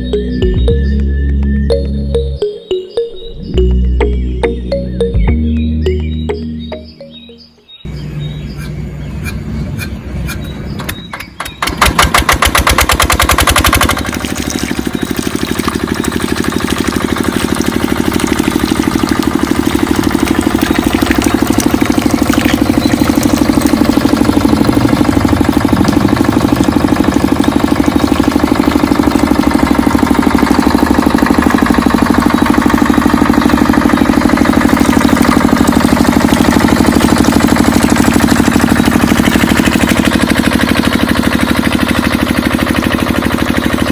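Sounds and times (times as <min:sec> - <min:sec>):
diesel engine starting and running: 0:00.0 - 0:43.9.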